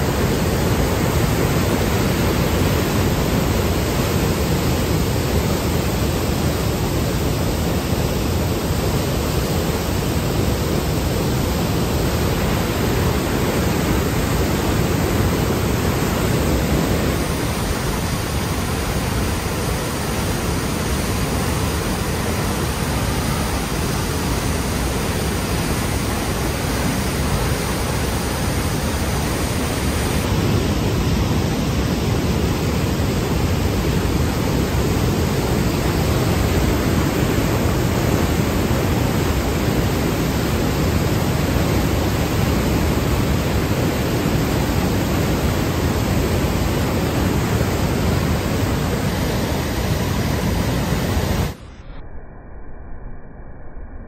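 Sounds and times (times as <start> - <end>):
waterfall rushing: 0.0 - 51.7.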